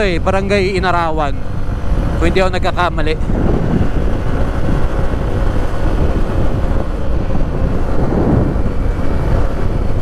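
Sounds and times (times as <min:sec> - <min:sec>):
motorcycle engine running: 0:00.0 - 0:10.0
wind buffeting microphone: 0:00.0 - 0:10.0.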